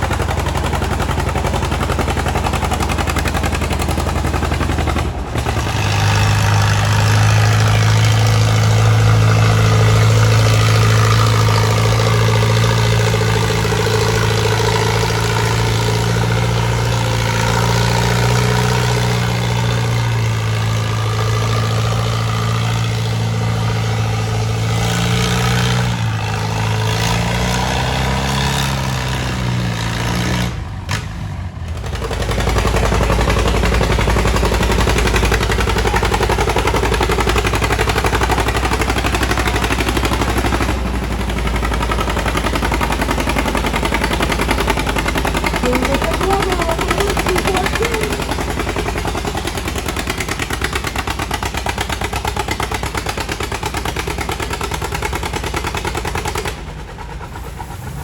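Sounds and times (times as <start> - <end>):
tractor engine running: 0.0 - 58.0
tractor engine under load: 0.0 - 58.0.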